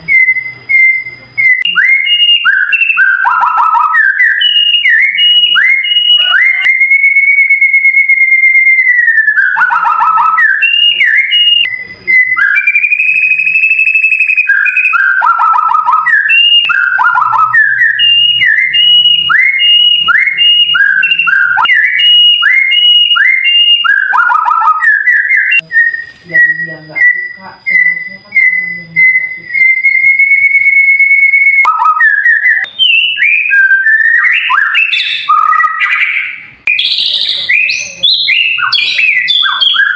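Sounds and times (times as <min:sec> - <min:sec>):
bird singing whistles and twitters: 0:00.0 - 0:39.9.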